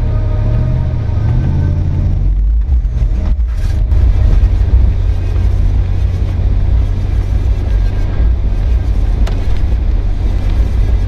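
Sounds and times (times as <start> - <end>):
engine rumbling under load: 0.0 - 11.0.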